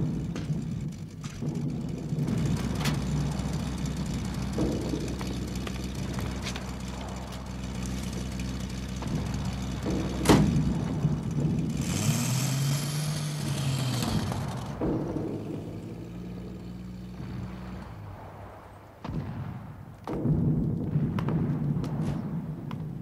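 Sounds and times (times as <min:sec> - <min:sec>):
car engine: 0:00.0 - 0:20.1.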